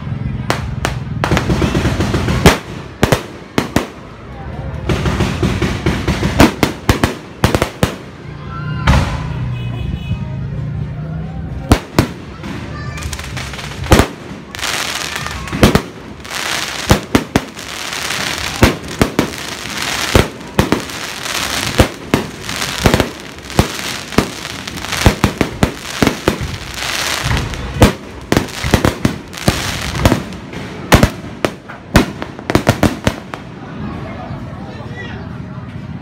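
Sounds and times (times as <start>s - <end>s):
hissing crackle of fireworks: 0.0s - 9.5s, 11.5s - 34.5s
fireworks bangs: 0.4s - 9.6s, 11.5s - 34.0s.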